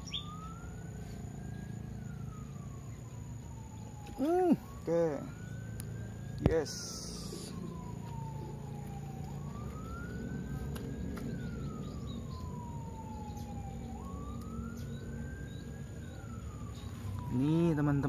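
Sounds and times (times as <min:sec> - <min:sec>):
siren wailing up and down: 0:00.0 - 0:18.0.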